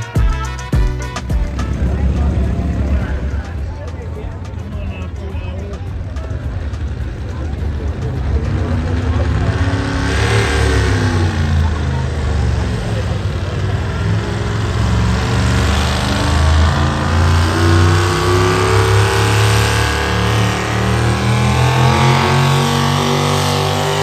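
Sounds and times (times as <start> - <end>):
heavy vehicle engine revving: 0.0 - 24.0.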